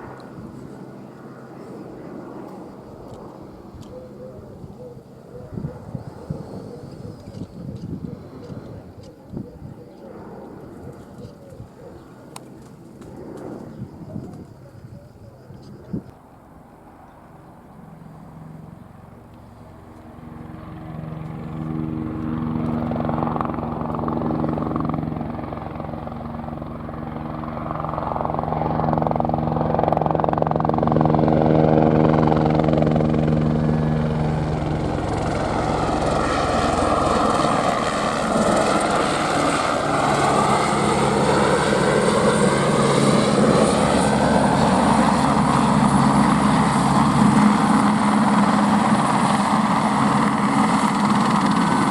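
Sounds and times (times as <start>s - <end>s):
helicopter flying by: 0.0s - 51.9s.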